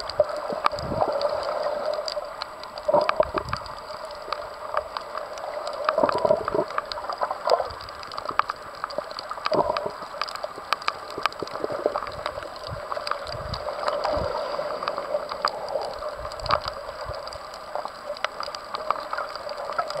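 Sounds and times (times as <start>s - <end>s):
sharp clicks and crackles: 0.0s - 20.0s
water sloshing and gurgling: 0.0s - 20.0s.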